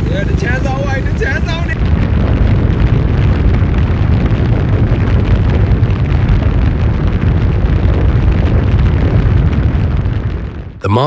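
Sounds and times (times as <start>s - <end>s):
loud low crackling rumble: 0.0s - 11.0s.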